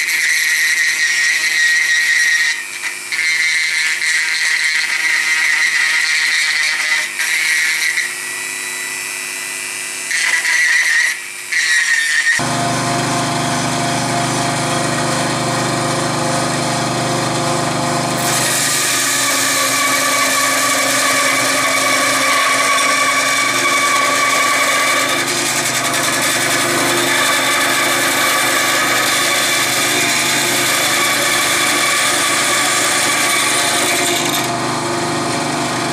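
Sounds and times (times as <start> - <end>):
benchtop saw motor running: 0.0 - 35.9
rotary tool grinding wood: 0.0 - 35.9.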